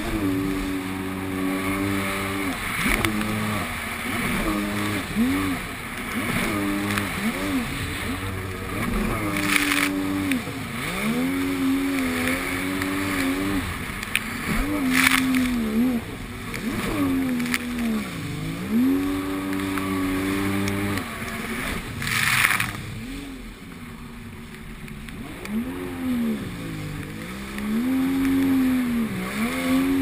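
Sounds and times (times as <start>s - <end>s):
jet ski engine revving: 0.0s - 30.0s.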